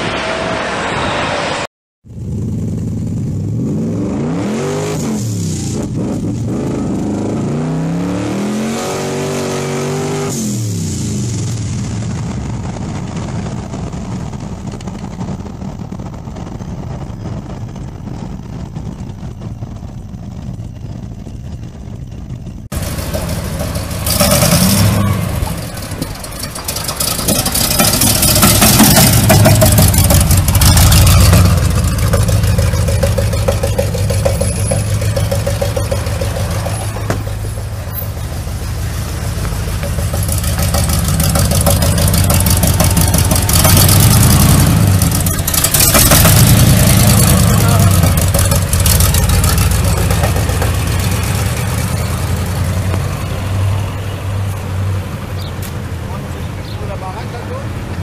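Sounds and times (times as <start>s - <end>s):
car engine revving: 0.0s - 11.8s, 22.7s - 58.0s.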